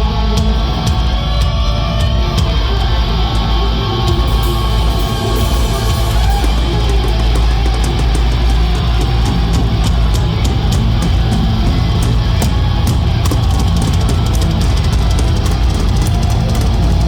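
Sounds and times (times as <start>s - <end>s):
heavy rock band playing: 0.0s - 17.0s.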